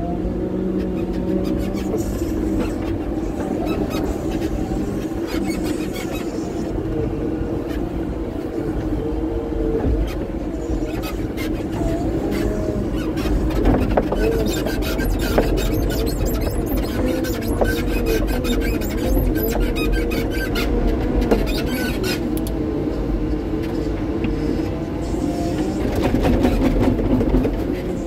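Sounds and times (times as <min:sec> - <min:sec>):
wavering whine: 0:00.0 - 0:26.1.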